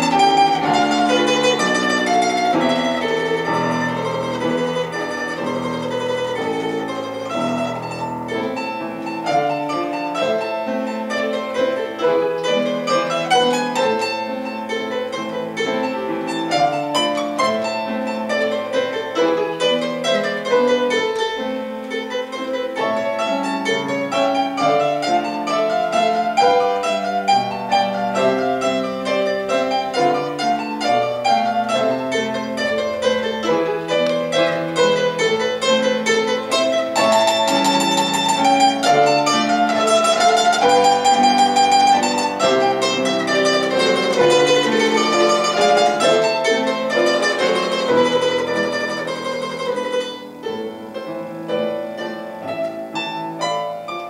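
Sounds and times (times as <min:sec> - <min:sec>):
lute playing folk melody: 0:00.0 - 0:54.0
piano accompaniment: 0:00.0 - 0:54.0.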